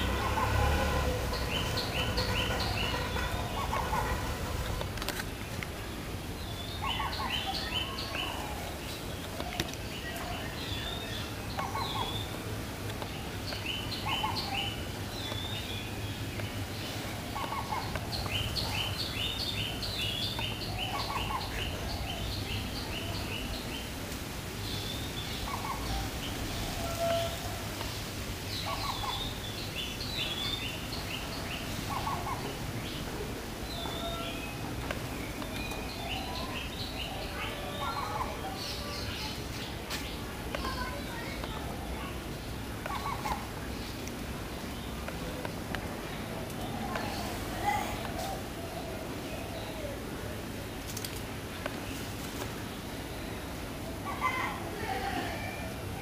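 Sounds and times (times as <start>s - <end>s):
bird calls: 0.0s - 24.0s, 24.6s - 50.4s.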